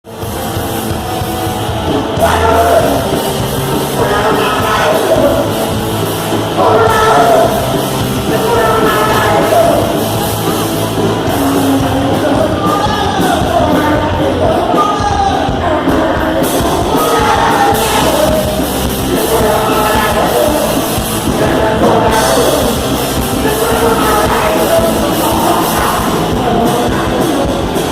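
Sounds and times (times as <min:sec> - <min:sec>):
punk rock band playing: 0:00.0 - 0:27.9
sung and shouted vocals: 0:01.0 - 0:27.9.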